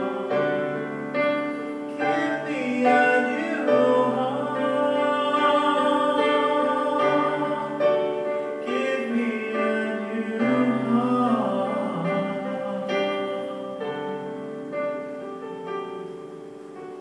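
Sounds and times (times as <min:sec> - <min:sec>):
worship singing: 0:00.0 - 0:15.5
held instrumental chords: 0:00.0 - 0:17.0.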